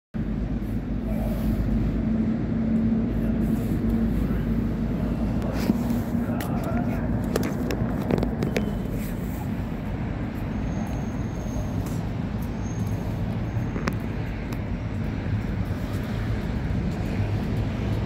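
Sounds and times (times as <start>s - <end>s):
city street traffic rumble: 0.2s - 18.0s.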